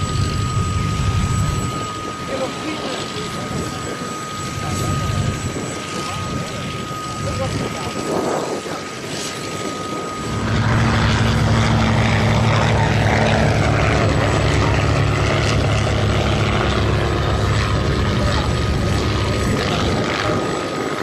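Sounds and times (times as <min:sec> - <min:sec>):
helicopter engines and rotors: 0:00.0 - 0:21.0.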